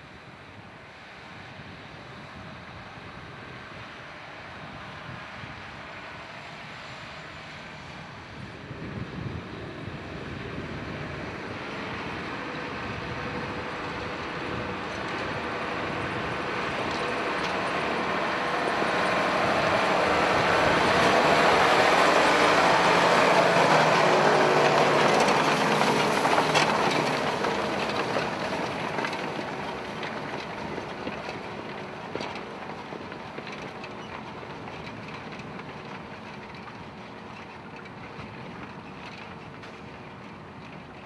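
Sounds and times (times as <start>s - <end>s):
tractor diesel engine under load: 1.6s - 41.0s.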